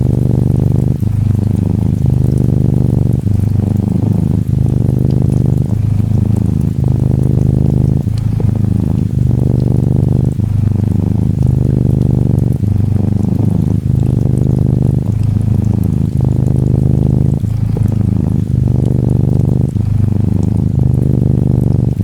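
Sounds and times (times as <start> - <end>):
faint rain patter: 0.0 - 22.0
kitten purring: 0.0 - 22.0.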